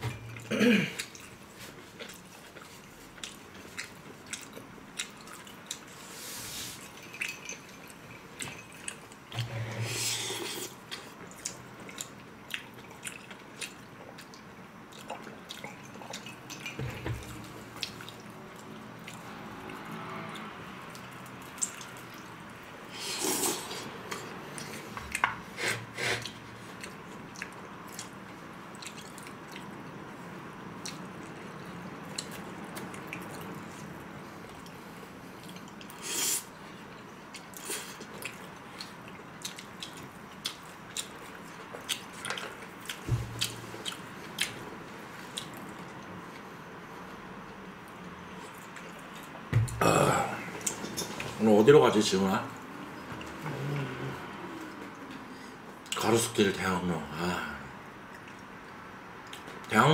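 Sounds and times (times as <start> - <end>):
chewing mouth noises: 1.0 - 9.4, 10.3 - 22.5, 26.0 - 49.8, 52.6 - 56.0, 58.0 - 59.7.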